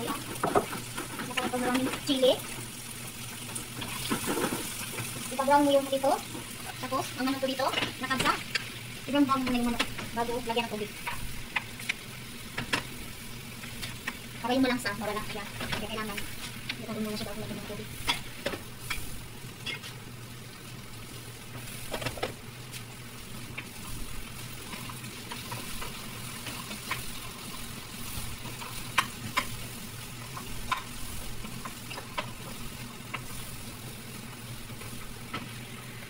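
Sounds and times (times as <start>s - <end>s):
food sizzling in frying pan: 0.0s - 36.0s.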